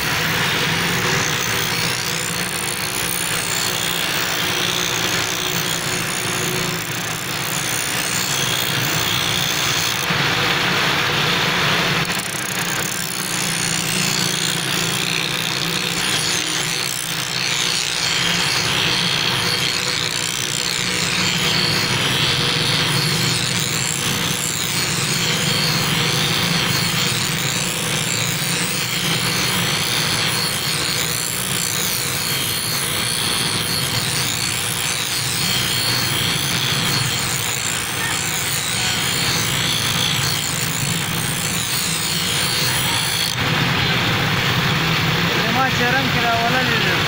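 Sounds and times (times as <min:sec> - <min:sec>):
blade grinding on spinning stone: 0:00.0 - 0:10.3, 0:11.2 - 0:43.4.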